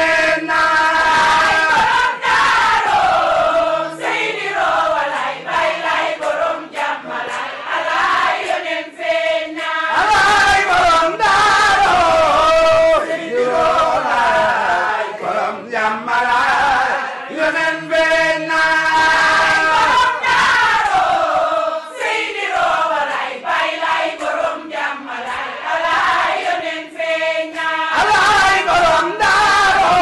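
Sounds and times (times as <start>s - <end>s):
congregation chanting in unison: 0.0s - 30.0s.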